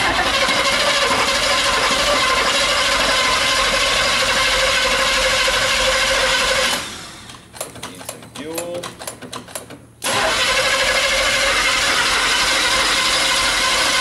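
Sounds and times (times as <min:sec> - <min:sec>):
starter motor cranking engine: 0:00.0 - 0:08.2, 0:08.9 - 0:14.0.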